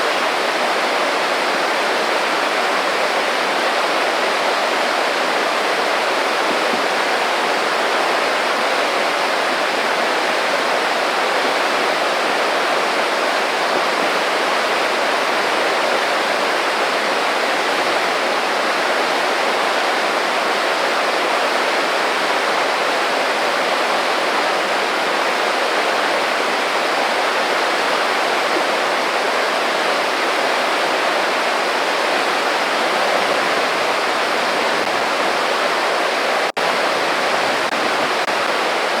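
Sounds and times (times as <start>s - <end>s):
creek babbling over stones: 0.0s - 39.0s.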